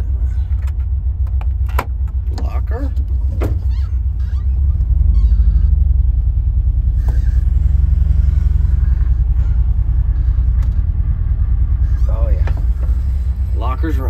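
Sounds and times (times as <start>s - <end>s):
van engine low rumble: 0.0s - 14.0s.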